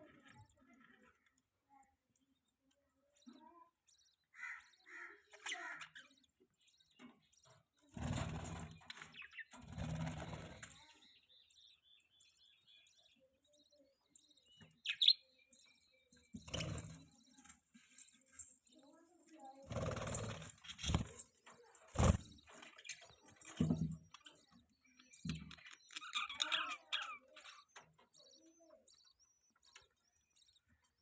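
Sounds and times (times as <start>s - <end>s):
budgerigars chirping and chattering: 2.2s - 31.0s.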